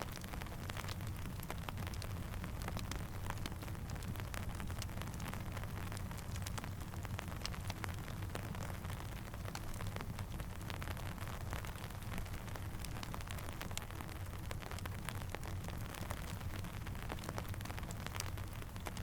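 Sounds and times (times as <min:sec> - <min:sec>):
campfire crackling and popping: 0:00.0 - 0:19.0
steady rain hiss: 0:00.0 - 0:19.0.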